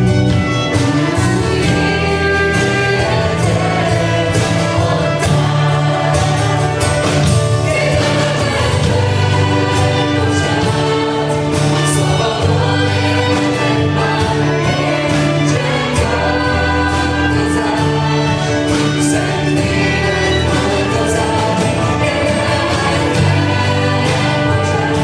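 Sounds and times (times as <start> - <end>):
band playing worship song: 0.0 - 25.0
voices singing: 0.0 - 25.0.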